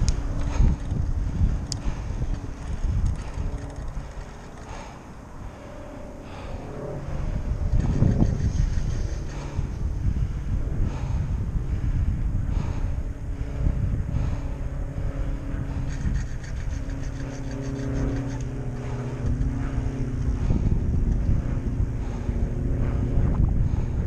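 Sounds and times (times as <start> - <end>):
engine drone: 0.0 - 24.0
low rumble: 0.0 - 24.0
wind buffeting microphone: 0.0 - 24.0.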